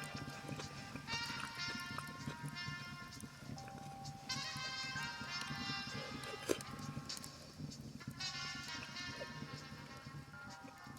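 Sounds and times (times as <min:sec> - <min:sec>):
background music with light beat: 0:00.0 - 0:10.9.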